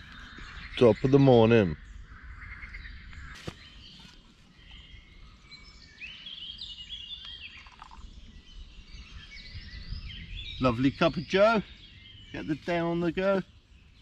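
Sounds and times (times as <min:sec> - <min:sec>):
birds chirping and singing: 0:00.0 - 0:14.0.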